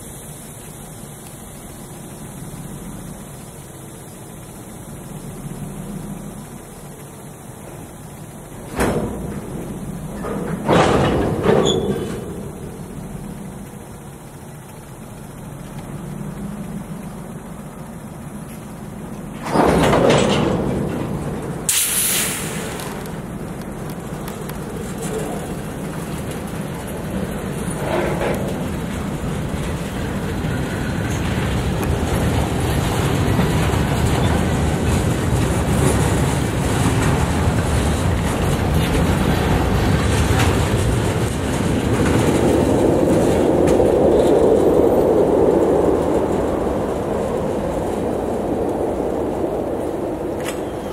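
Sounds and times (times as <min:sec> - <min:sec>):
freight cars rolling past: 0:00.0 - 0:50.9
wheels clattering over rail joints: 0:00.0 - 0:50.9.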